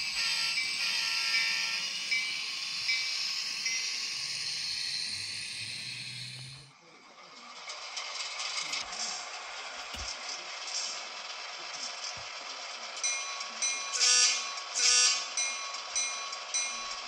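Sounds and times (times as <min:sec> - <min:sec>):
hissing engine sound from speaker: 0:00.0 - 0:15.4.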